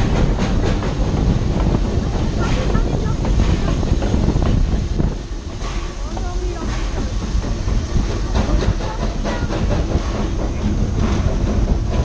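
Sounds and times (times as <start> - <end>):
train wheels rumbling on rails: 0.0 - 12.0
wheels clacking and knocking: 0.0 - 12.0.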